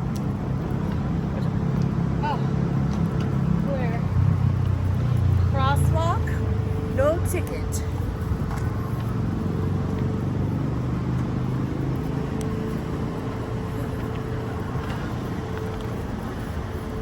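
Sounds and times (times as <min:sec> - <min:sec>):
traffic engines rumbling: 0:00.0 - 0:17.0.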